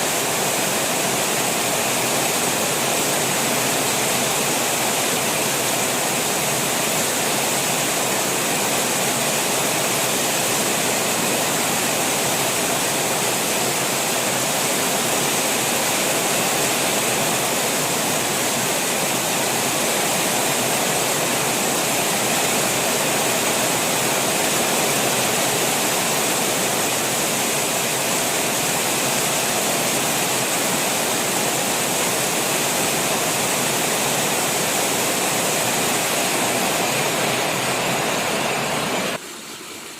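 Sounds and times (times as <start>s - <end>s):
runoff water rushing: 0.0s - 39.9s
steady rain: 0.0s - 39.9s.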